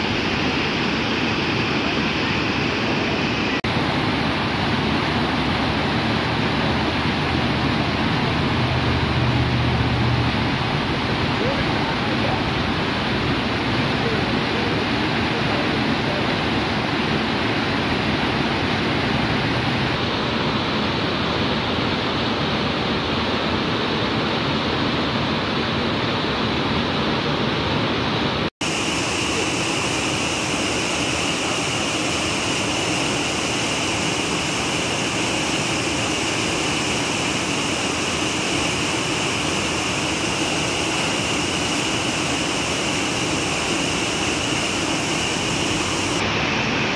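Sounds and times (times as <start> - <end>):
waterfall rushing water: 0.0 - 46.9.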